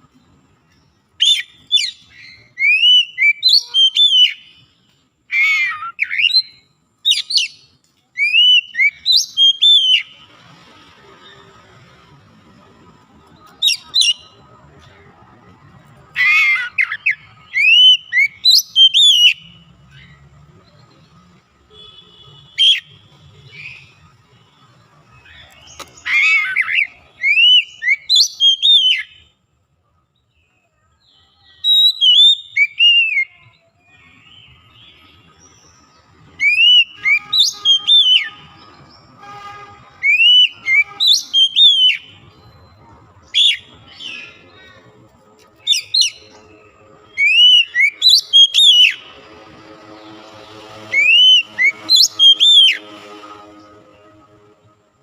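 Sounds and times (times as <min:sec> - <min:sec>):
bird singing whistled notes: 0:00.7 - 0:10.3, 0:13.2 - 0:14.9, 0:16.1 - 0:29.4, 0:30.2 - 0:39.2, 0:39.8 - 0:44.5, 0:45.5 - 0:49.2, 0:50.8 - 0:54.1.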